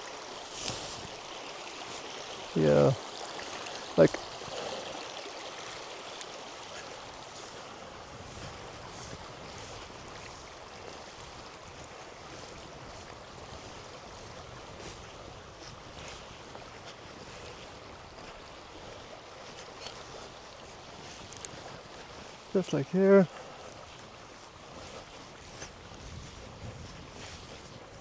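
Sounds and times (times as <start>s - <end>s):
faint ticks and rustles: 0.0s - 28.0s
river rushing: 0.0s - 28.0s.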